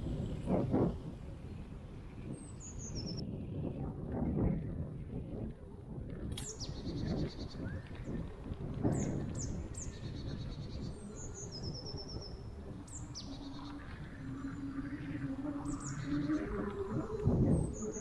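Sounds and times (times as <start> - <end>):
steady low rumble: 0.0 - 18.0
birds chirping and trilling: 0.2 - 3.2, 6.4 - 18.0.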